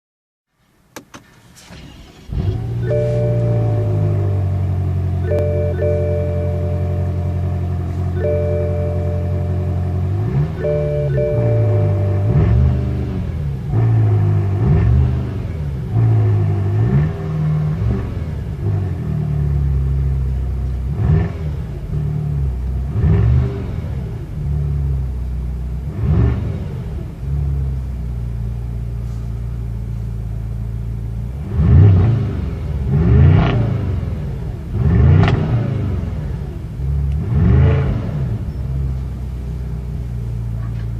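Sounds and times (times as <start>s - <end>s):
car exhaust idling and revving: 2.1s - 40.9s.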